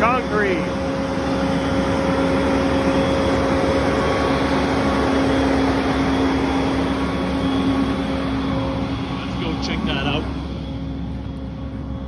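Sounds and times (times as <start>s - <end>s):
diesel truck engines running: 0.0s - 12.0s.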